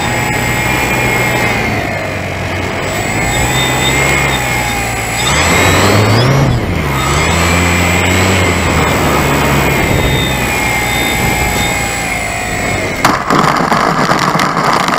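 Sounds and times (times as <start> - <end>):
electric motor and propeller whine: 0.0 - 13.6.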